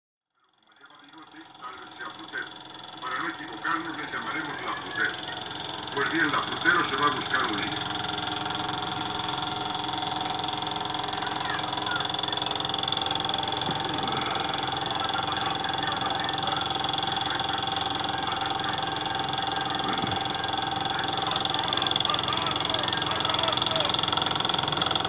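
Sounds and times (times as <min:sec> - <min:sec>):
film projector whirring: 0:00.4 - 0:25.0.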